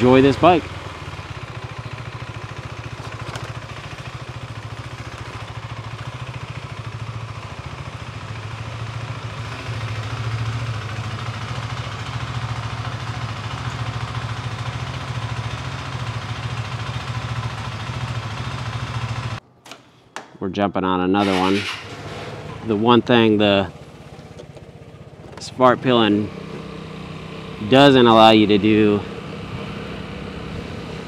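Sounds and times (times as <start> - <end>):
motorcycle engine running: 0.0 - 19.4, 21.2 - 31.0.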